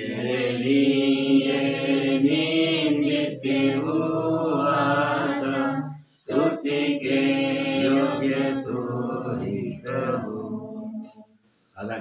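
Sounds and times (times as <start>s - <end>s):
person singing worship song: 0.0s - 11.5s.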